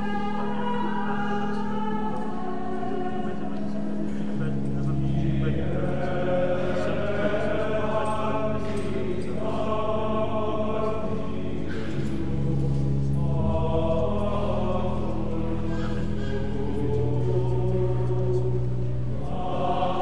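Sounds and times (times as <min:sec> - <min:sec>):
voices chanting: 0:00.0 - 0:20.0
held low drone notes: 0:03.5 - 0:20.0.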